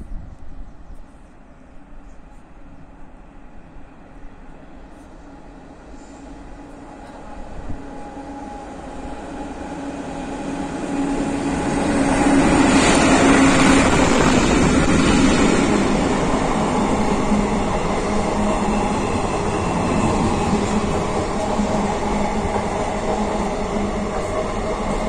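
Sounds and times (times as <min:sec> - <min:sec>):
electric locomotive humming: 0:00.0 - 0:25.0.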